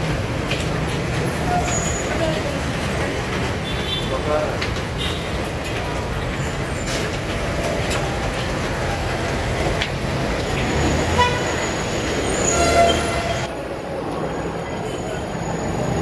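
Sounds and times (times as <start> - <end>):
road traffic: 0.0 - 16.0
trains rumbling: 0.0 - 16.0.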